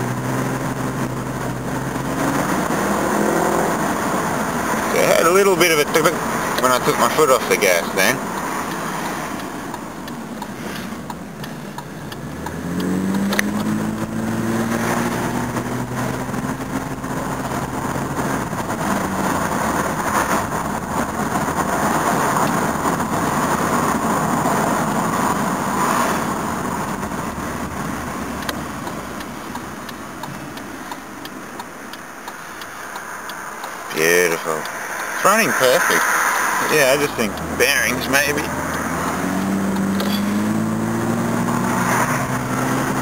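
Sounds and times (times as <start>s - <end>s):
car engine accelerating: 0.0s - 43.0s
road and wind noise: 0.0s - 43.0s.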